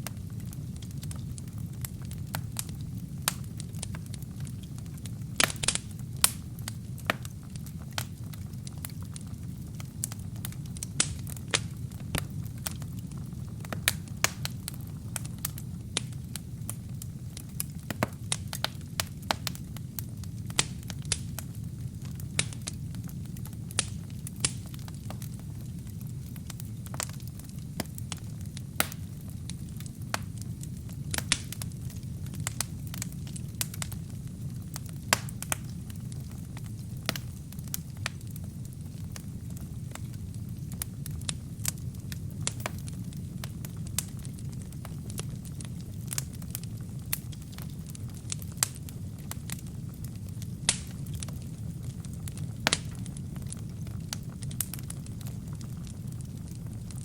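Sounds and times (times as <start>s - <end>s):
fire rumbling: 0.0s - 57.0s
wood crackling and popping: 0.0s - 57.0s.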